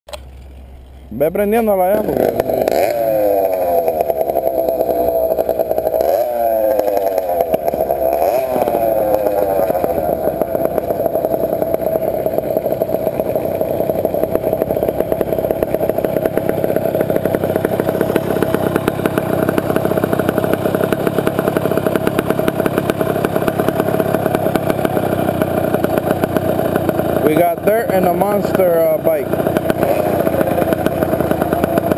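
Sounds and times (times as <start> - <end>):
small engine revving: 0.1 - 31.9.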